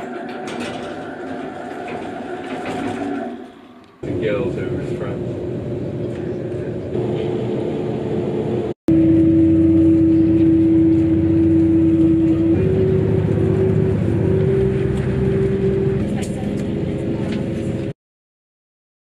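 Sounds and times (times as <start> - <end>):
train traction motor drone: 0.0 - 17.9.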